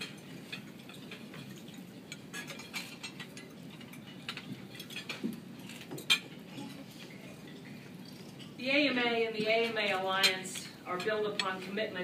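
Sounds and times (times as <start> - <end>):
cutlery and dishes clinking: 0.0 - 8.6, 9.4 - 12.0
murmur of room noise: 0.0 - 12.0.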